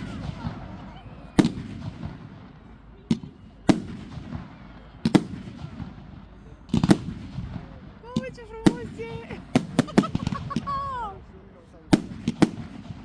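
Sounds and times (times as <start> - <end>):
firework bangs: 0.0 - 11.2, 11.9 - 13.0.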